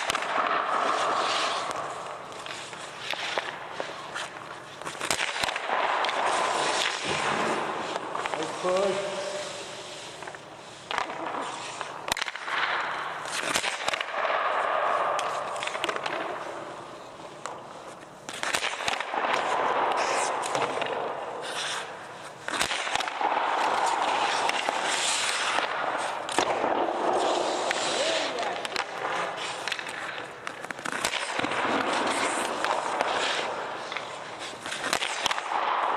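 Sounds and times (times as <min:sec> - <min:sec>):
hockey sticks slapping pucks: 0:00.0 - 0:35.9
pucks smacking goalie pads: 0:00.0 - 0:35.9
skates scraping on ice: 0:00.0 - 0:35.9.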